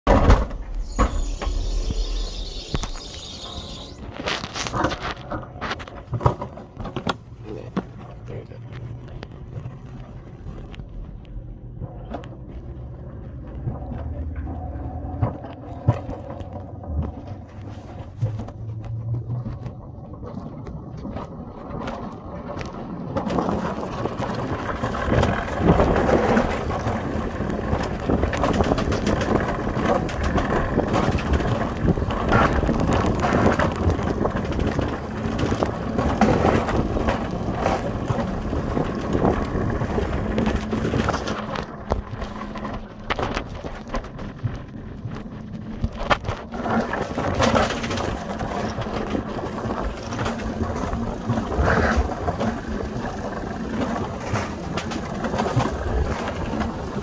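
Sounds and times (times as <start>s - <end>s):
sled wheels rumbling on track: 0.1s - 57.0s.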